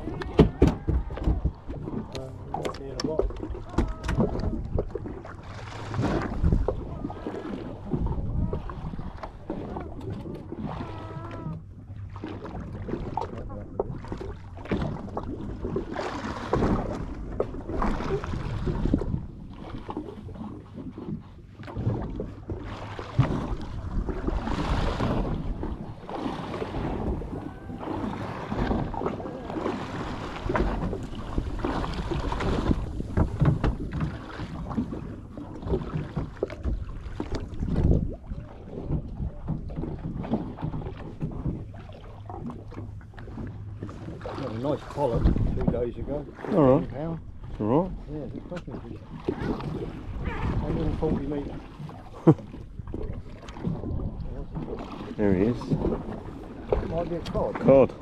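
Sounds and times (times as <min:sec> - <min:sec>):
wind buffeting microphone: 0:00.0 - 0:12.0, 0:12.6 - 0:58.0
water splashing against hull: 0:00.0 - 0:58.0.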